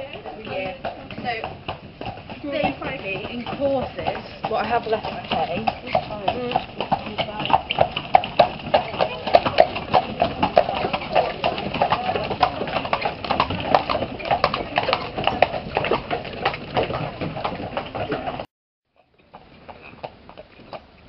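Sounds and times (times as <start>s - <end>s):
horse hooves clip-clopping: 0.0s - 21.0s.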